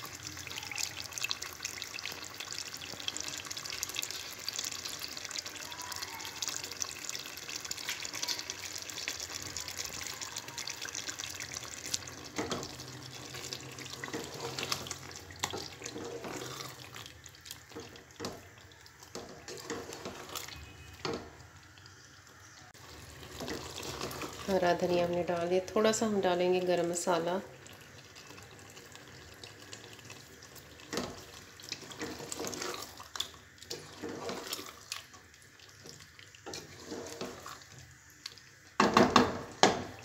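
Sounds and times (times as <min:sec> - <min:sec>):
curry simmering in a pot: 0:00.0 - 0:40.0.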